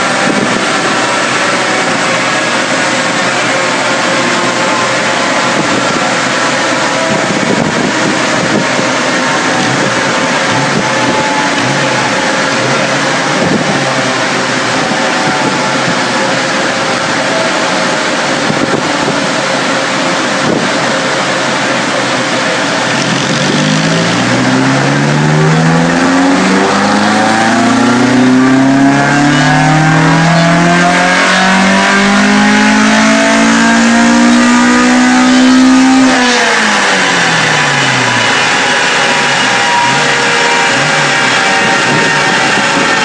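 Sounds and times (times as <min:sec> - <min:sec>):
car engine revving under load: 0:00.0 - 0:43.0.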